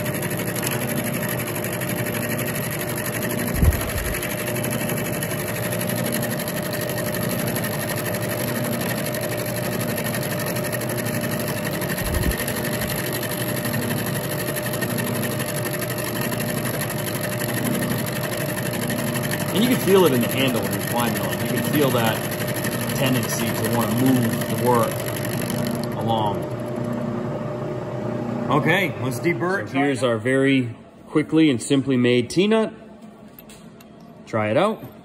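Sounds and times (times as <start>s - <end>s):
milling machine drone: 0.0s - 30.6s.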